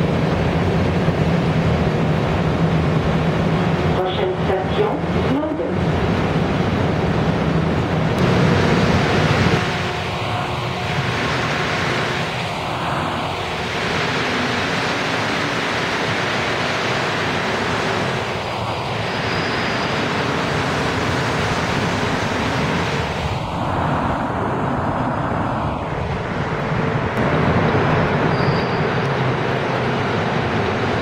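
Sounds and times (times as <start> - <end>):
metro train passing: 0.0 - 31.0.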